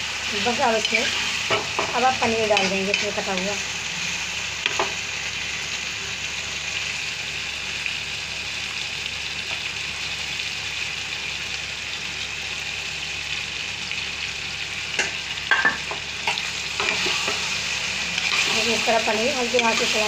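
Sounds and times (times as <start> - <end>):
gravy sizzling in a pan: 0.0 - 20.0.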